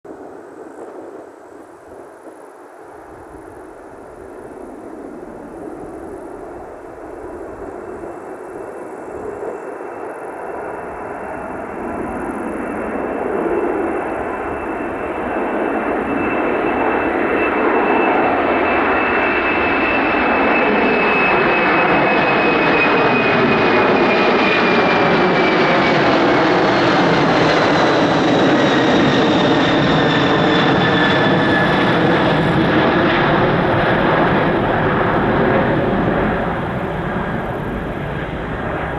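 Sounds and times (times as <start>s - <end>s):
jet engines at takeoff: 0.1s - 38.9s.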